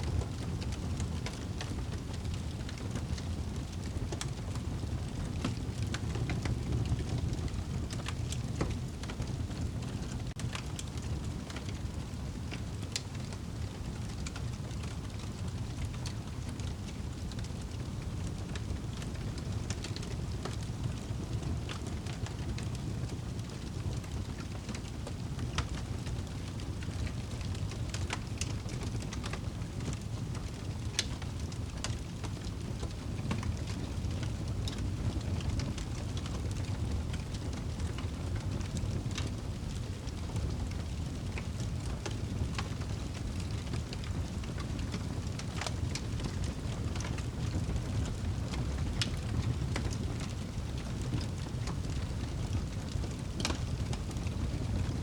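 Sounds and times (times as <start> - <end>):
fire burning with crackles: 0.0 - 55.0.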